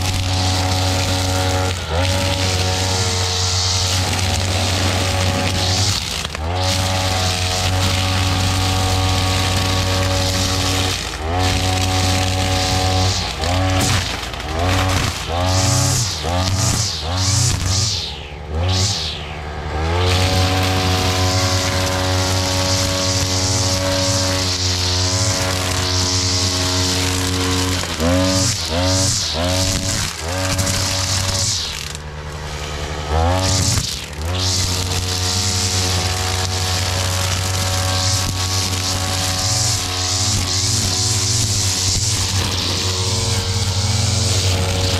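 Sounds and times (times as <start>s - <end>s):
brush cutter engine running: 0.0s - 44.9s
trimmer line cutting grass: 0.0s - 44.9s.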